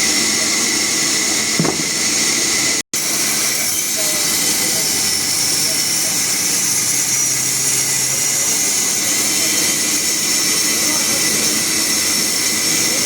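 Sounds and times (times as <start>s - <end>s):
sawmill machinery whining: 0.0s - 13.0s.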